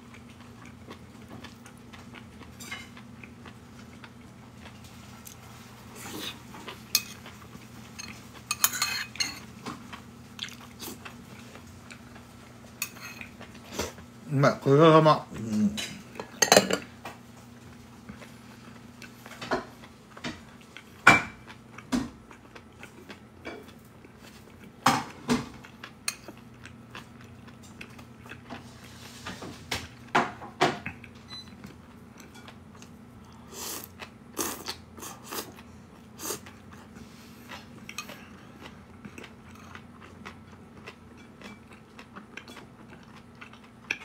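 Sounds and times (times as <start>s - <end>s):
person chewing food: 0.0s - 8.5s, 9.1s - 14.1s, 17.2s - 30.2s, 30.8s - 44.0s
faint steady hum: 0.0s - 44.0s.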